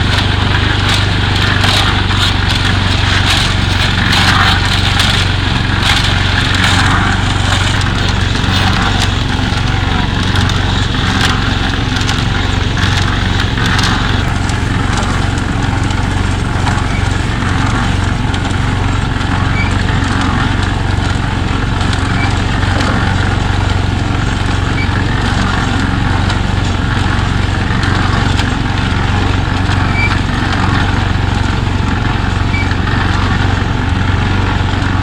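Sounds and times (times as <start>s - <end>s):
scraping and knocking: 0.0s - 32.0s
concrete mixer engine running: 0.0s - 35.0s.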